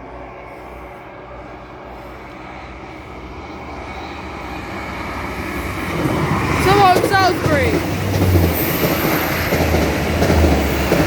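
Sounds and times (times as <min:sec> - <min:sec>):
train diesel engines droning: 0:00.0 - 0:11.0.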